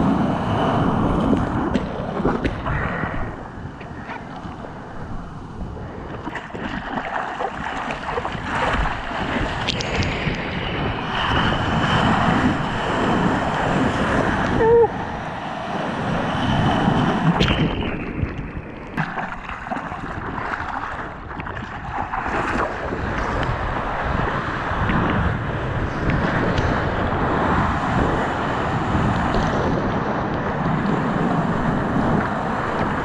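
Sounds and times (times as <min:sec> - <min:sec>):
water rushing and splashing: 0:00.0 - 0:33.0
wind buffeting microphone: 0:00.0 - 0:33.0.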